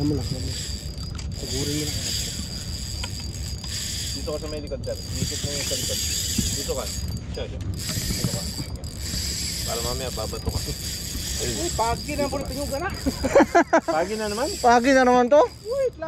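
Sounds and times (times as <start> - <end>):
fishing reel ratcheting: 0.0 - 16.0
wind and sea hiss: 0.0 - 16.0.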